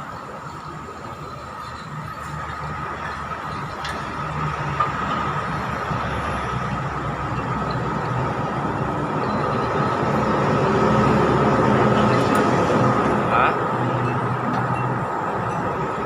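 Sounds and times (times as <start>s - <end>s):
constant high whine: 0.0s - 16.0s.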